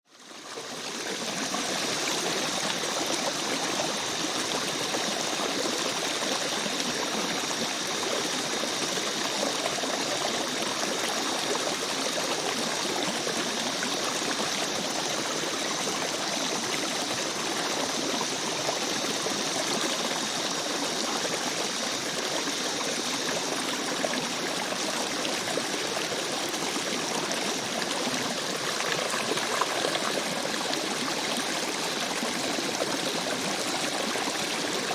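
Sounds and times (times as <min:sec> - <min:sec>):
river stream flowing: 0:00.7 - 0:34.9.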